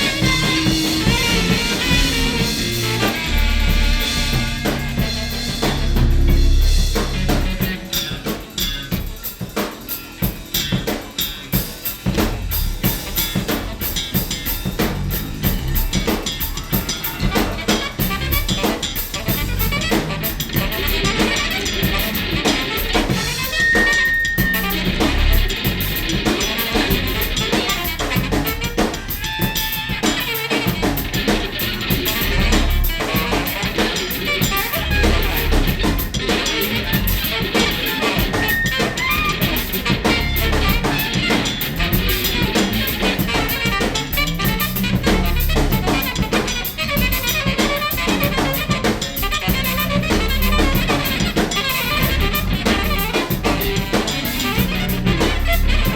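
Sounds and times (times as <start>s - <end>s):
held high note: 0.0s - 9.4s, 11.6s - 55.9s
drum kit playing: 0.0s - 55.9s
free jazz band music: 0.0s - 55.9s.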